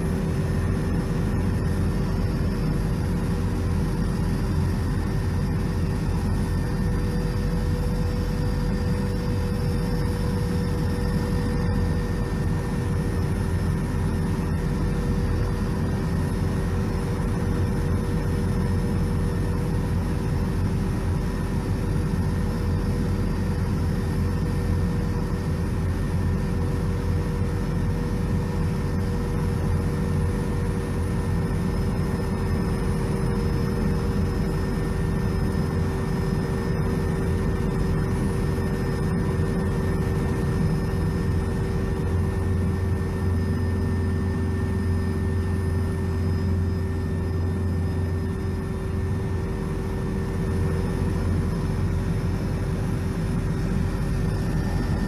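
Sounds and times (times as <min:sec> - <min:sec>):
helicopter cabin drone: 0:00.0 - 0:55.0
steady whining tones: 0:00.0 - 0:55.0.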